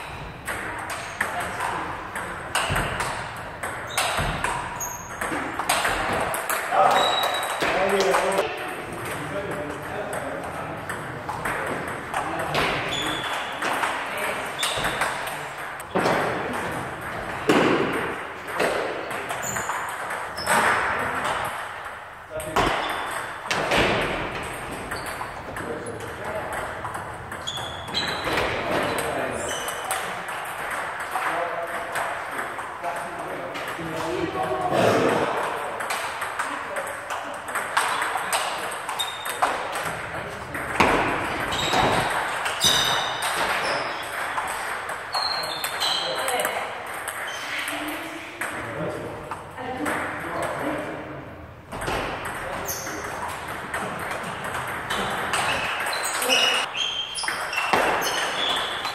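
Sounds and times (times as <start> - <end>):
table tennis balls clicking: 0.0 - 48.6, 51.6 - 58.9.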